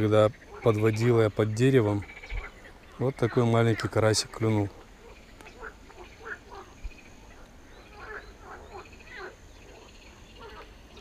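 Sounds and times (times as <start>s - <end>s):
frogs croaking: 0.0s - 11.0s.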